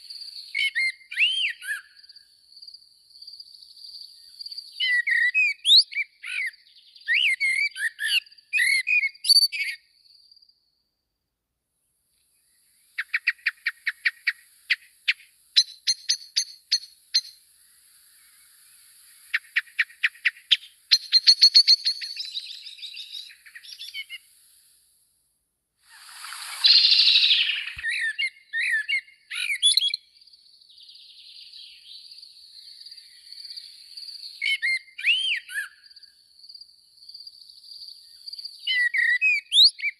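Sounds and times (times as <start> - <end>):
small songbirds chirping: 0.0 - 11.0, 12.2 - 25.0, 25.8 - 39.9.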